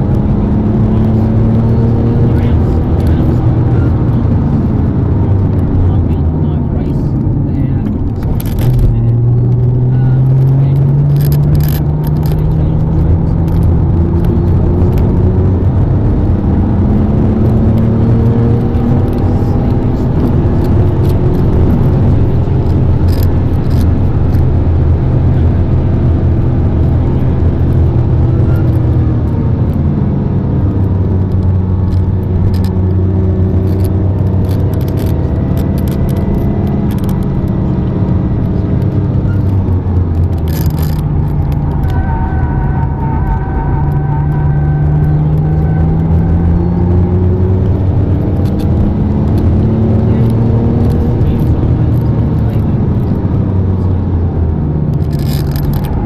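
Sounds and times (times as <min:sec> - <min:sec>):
supercar engine from inside cabin: 0:00.0 - 0:56.0.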